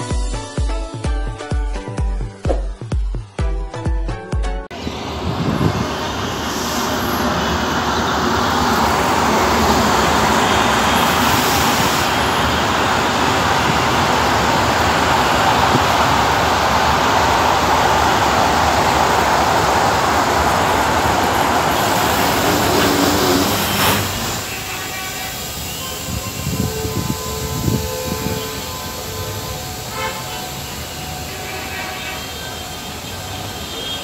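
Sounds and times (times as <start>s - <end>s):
passing train alongside: 4.7s - 34.0s
train rumbling along track: 4.7s - 34.0s.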